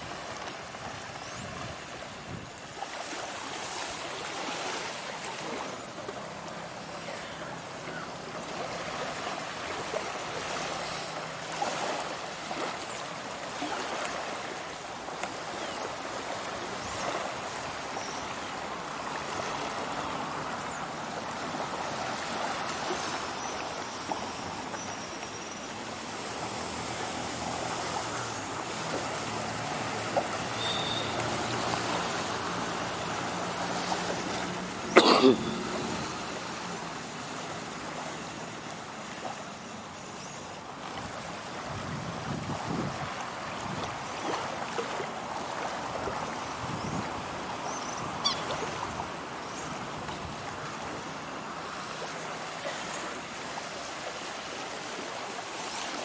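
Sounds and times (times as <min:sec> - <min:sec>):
waves lapping on sandy shore: 0:00.0 - 0:56.0.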